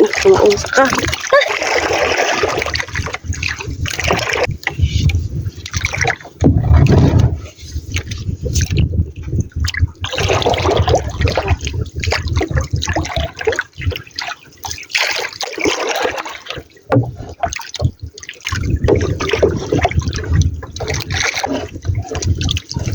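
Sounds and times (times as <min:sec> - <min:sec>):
water splashing against boat: 0:00.0 - 0:22.9.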